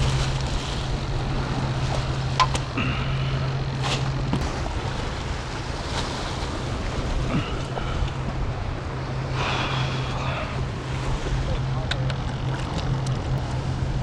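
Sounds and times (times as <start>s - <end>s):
motorboat engine droning: 0.0s - 14.0s
surf: 0.0s - 14.0s
wind: 0.0s - 14.0s.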